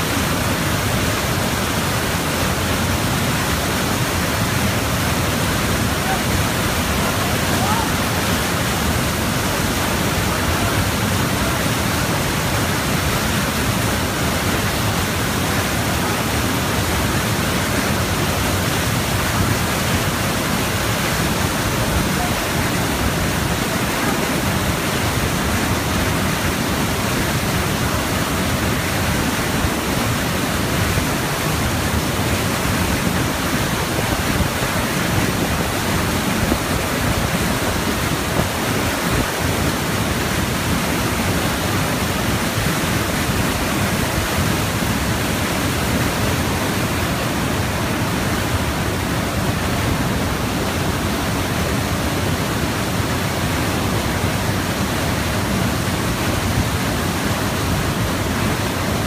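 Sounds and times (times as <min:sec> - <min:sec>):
water rushing through turbine: 0:00.0 - 0:59.0.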